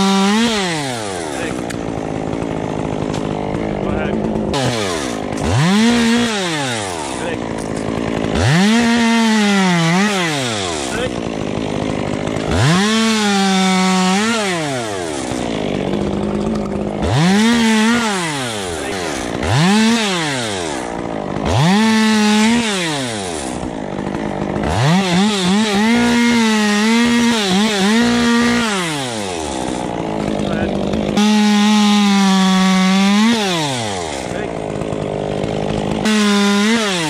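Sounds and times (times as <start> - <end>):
chainsaw cutting wood: 0.0 - 37.0.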